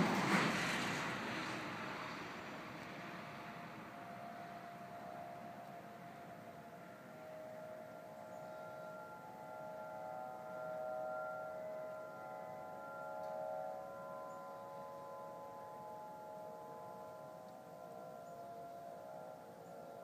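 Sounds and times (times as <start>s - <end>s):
drone of held tones in the sky: 0.0s - 20.0s.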